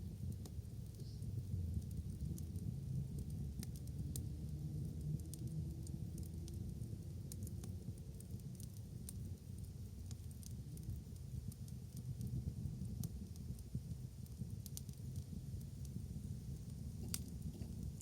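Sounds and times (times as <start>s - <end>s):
bonfire crackling and popping: 0.0s - 18.0s
fire low rumble: 0.0s - 18.0s.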